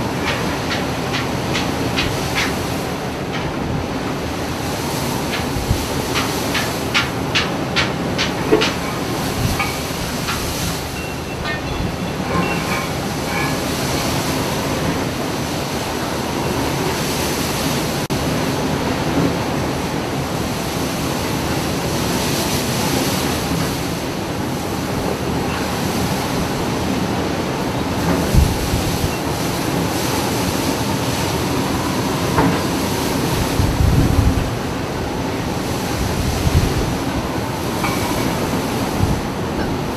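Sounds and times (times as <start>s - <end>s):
ship rumble and rushing water: 0.0s - 39.9s.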